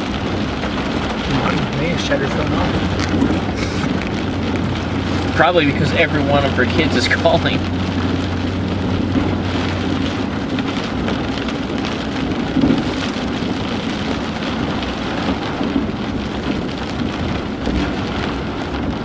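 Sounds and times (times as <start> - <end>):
road and engine noise in car: 0.0 - 19.0.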